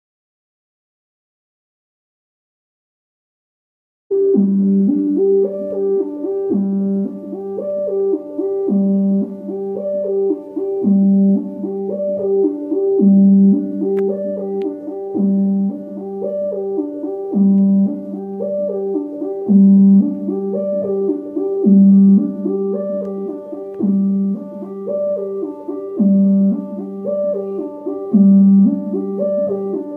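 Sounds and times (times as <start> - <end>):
synthesizer repeating phrase: 4.1 - 29.9.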